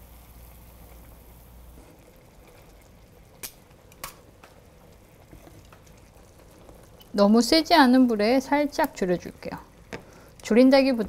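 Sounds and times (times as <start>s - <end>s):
sauce simmering in a frying pan: 0.0s - 11.0s.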